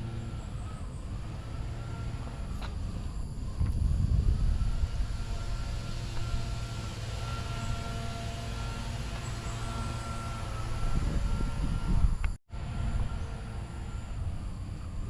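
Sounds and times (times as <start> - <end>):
bicycle road rumble: 0.0 - 15.0
faint thin whine: 0.0 - 15.0
wind on microphone: 0.0 - 15.0.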